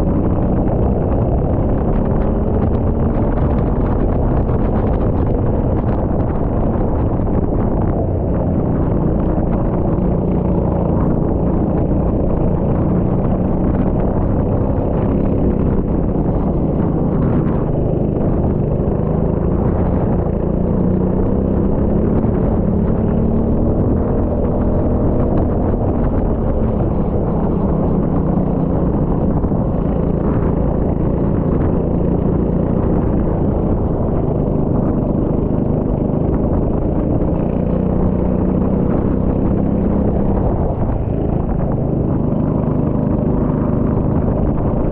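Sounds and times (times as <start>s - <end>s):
go-kart engine running: 0.0s - 44.9s.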